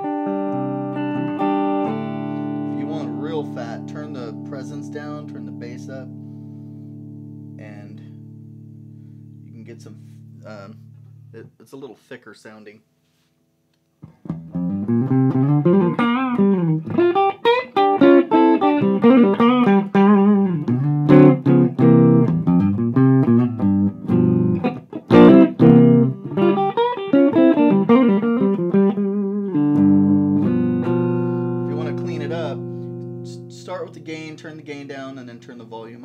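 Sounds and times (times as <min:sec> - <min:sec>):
clean electric guitar playing: 0:00.0 - 0:11.5, 0:14.0 - 0:36.0.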